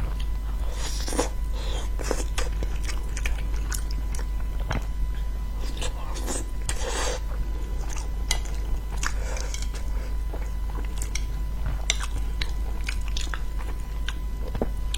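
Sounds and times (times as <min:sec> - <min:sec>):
chewing and crunching seafood: 0:00.0 - 0:14.9
steady low hum: 0:00.0 - 0:14.9.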